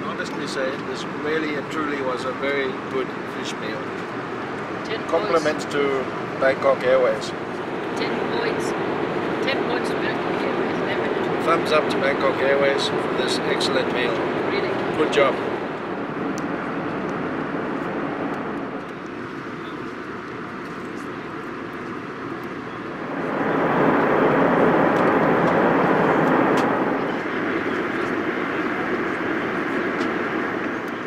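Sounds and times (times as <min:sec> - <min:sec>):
airliner cabin engine and airflow noise: 0:00.0 - 0:31.0.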